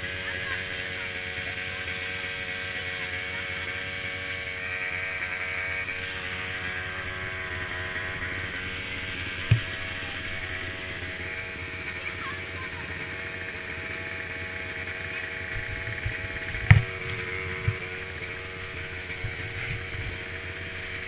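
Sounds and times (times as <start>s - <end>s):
quad engines buzzing: 0.0s - 21.0s.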